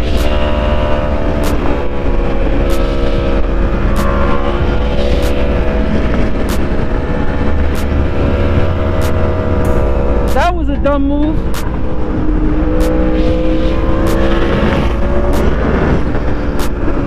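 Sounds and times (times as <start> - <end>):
motorcycle engine cruising: 0.0 - 17.0
wind rush on microphone: 0.0 - 17.0.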